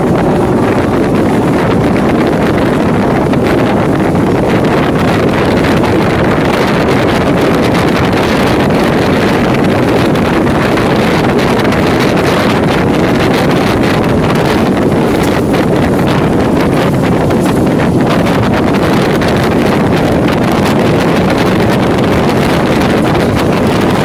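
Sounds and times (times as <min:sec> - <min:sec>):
train wheels rumbling on track: 0:00.0 - 0:24.0
wind buffeting microphone: 0:00.0 - 0:24.0.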